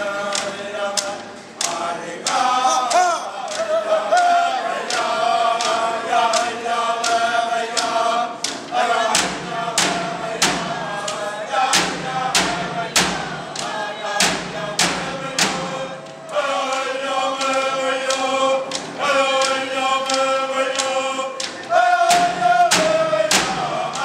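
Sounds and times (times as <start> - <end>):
frame drums beating: 0.0 - 24.0
group of voices chanting: 0.0 - 24.0.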